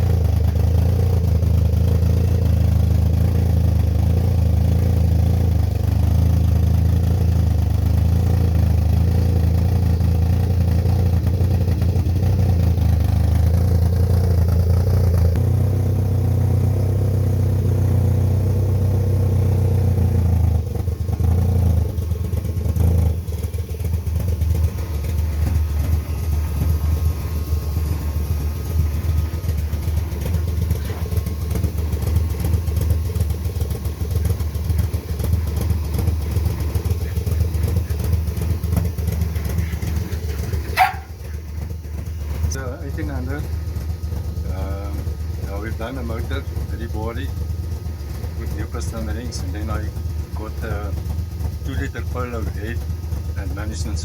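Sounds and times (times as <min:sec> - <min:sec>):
car engine rough idling: 0:00.0 - 0:54.0.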